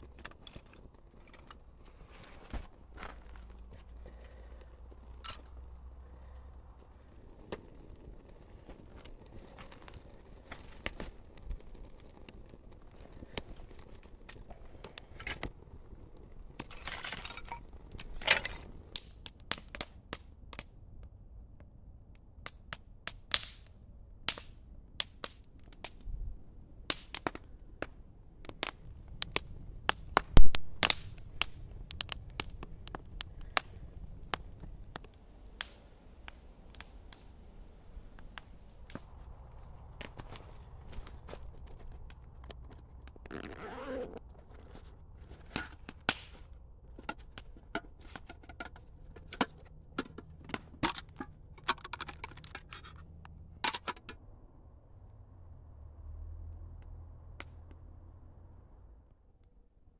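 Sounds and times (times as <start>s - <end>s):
wood fire crackling and popping: 0.0s - 54.2s, 56.8s - 57.8s.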